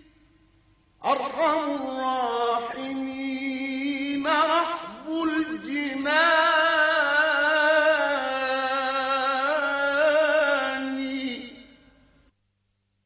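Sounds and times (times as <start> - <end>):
person singing devotional chant: 1.0 - 11.8.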